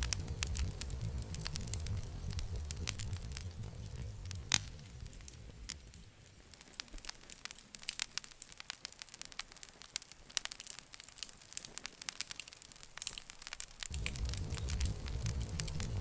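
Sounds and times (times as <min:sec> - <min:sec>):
campfire wood popping: 0:00.0 - 0:16.0
faint hiss: 0:00.0 - 0:16.0.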